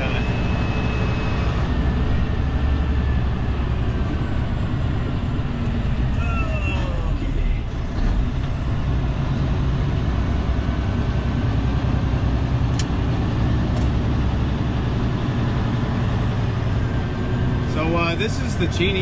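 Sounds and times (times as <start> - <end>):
diesel truck engine droning: 0.0 - 19.0
road noise: 0.0 - 19.0.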